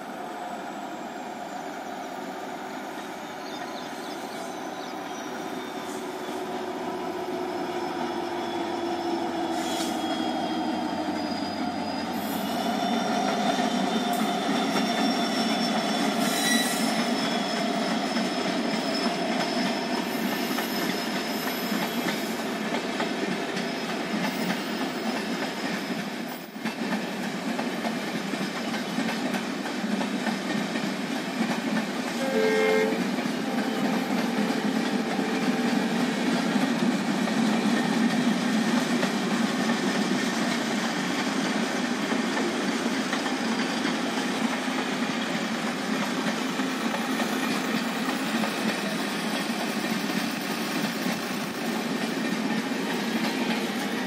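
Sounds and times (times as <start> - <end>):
diesel locomotive engine whine: 0.0 - 54.0
train wheels clattering on rails: 8.6 - 54.0.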